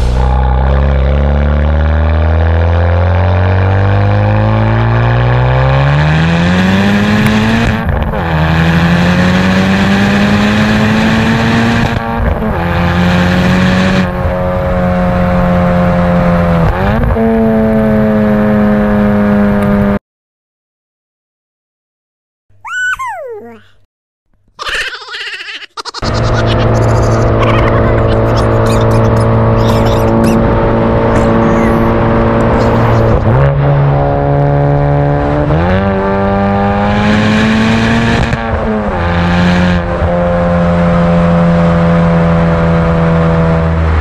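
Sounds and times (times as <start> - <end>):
car engine accelerating: 0.0 - 20.0, 26.0 - 44.0.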